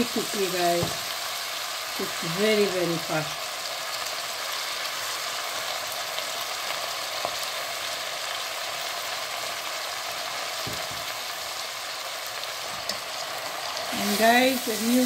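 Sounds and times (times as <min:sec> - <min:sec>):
hot oil sizzling in a pot: 0:00.0 - 0:15.0.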